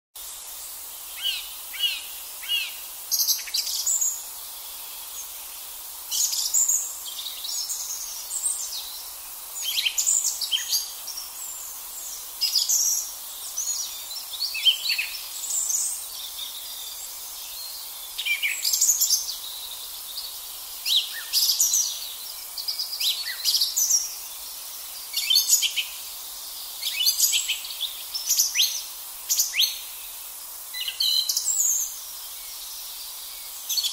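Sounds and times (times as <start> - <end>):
song thrush singing: 0.2 - 33.9.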